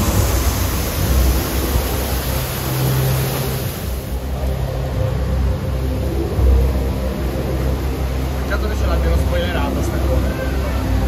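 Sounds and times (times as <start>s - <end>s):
low rumble: 0.0s - 11.0s
rushing falling water: 0.0s - 11.0s.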